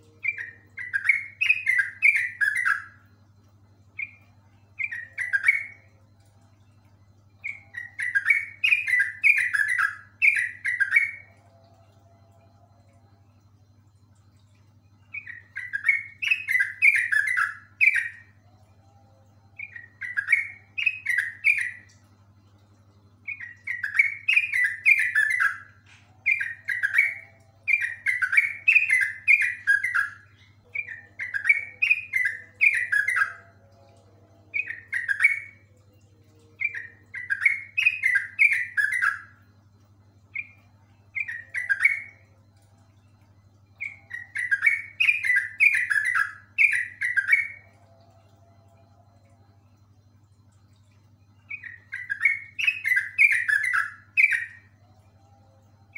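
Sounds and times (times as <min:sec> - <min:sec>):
bulbul singing: 0:00.0 - 0:55.9
faint low hum: 0:00.0 - 0:55.9.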